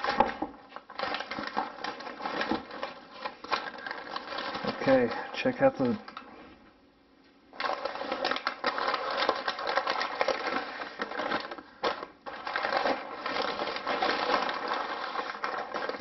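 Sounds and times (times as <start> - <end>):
paper crinkling and crackling: 0.0 - 6.5, 7.5 - 16.0.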